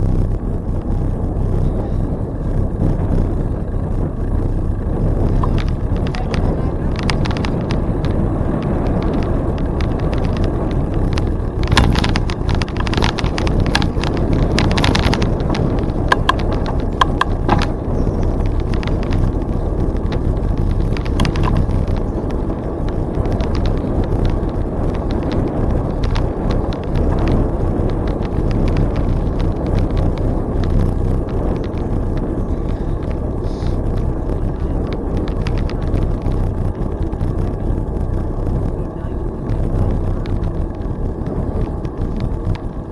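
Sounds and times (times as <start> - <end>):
bicycle tyres on trail: 0.0 - 42.9
sharp clicks and rattles: 0.0 - 42.9
wind on microphone: 0.0 - 42.9.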